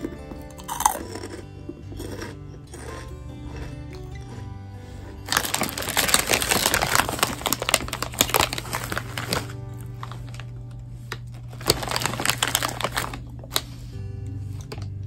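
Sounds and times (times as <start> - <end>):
background music: 0.0 - 15.0
snack bag crinkling: 0.0 - 15.0.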